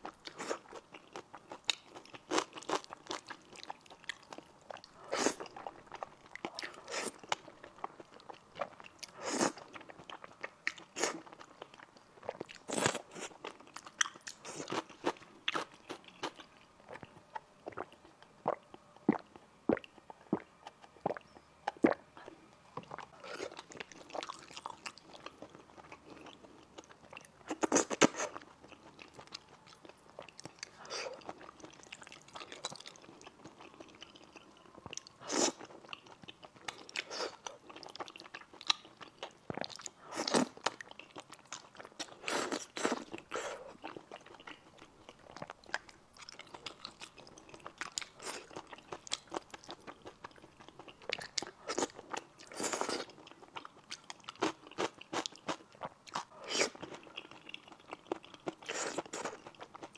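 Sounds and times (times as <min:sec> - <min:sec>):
chewing noodles: 0:00.0 - 0:59.9.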